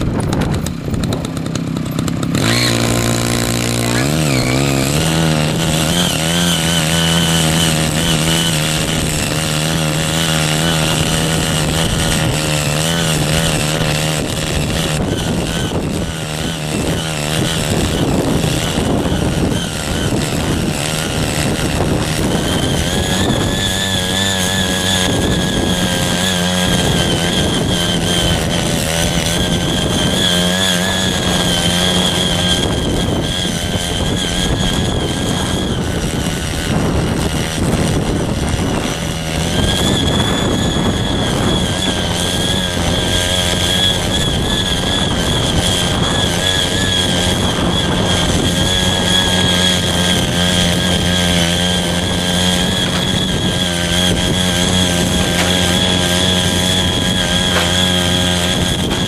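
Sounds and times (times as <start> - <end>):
cultivator engine running hard: 0.0 - 59.0.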